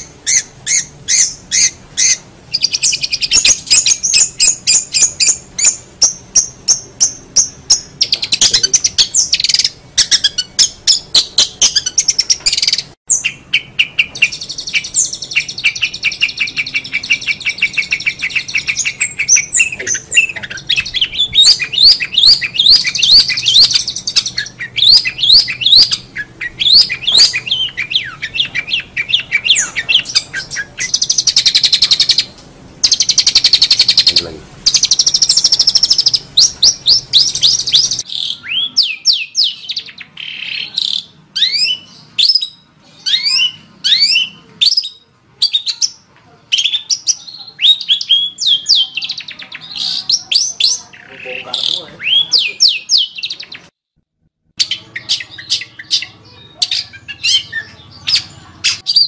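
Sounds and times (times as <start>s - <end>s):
bird singing chirps and whistles: 0.0s - 45.9s, 46.5s - 53.7s, 54.6s - 59.0s.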